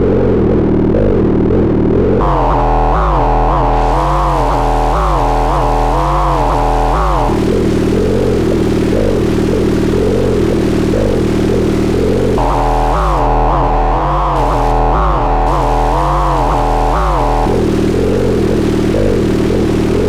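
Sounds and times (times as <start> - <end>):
synthesizer drone swooping in pitch: 2.0 - 20.0.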